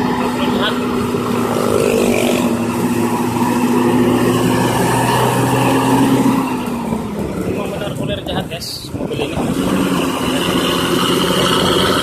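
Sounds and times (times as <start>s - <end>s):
bus diesel engine roaring: 0.0s - 12.0s.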